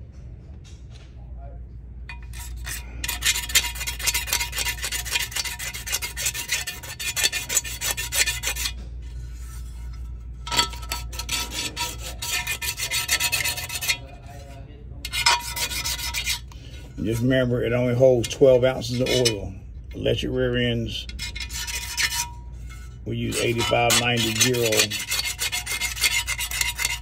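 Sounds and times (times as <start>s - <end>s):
gasket scraping off metal: 2.1s - 27.0s.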